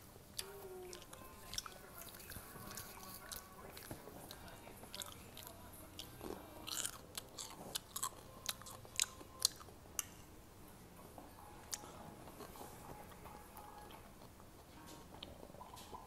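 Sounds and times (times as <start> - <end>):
chewing crunchy food: 0.3 - 10.2, 11.6 - 16.0.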